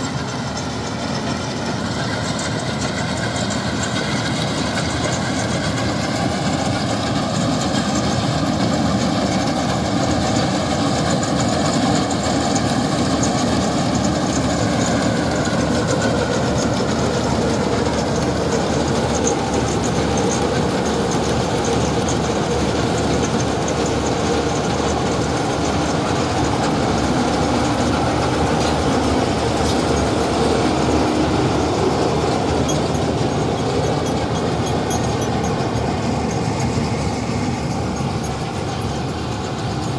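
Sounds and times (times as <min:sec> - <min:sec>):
combine harvester drone: 0:00.0 - 0:39.9
faint mechanical whine: 0:00.0 - 0:39.9.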